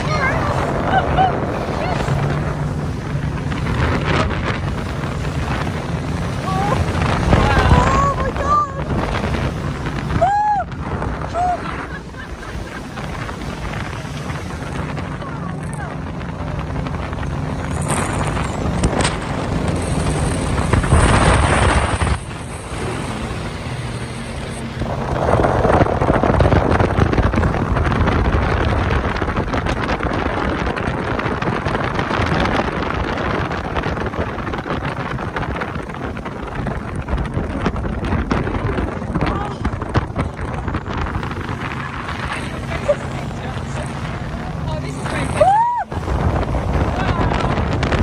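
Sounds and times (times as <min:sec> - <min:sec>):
engine running: 0:00.0 - 0:48.0
rush of wind noise: 0:00.0 - 0:48.0.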